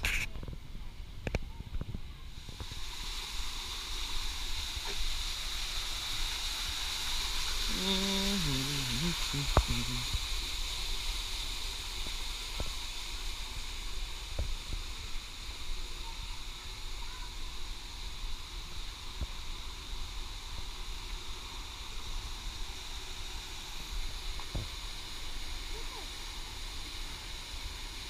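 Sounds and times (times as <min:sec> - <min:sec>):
constant hiss: 0:00.0 - 0:28.0.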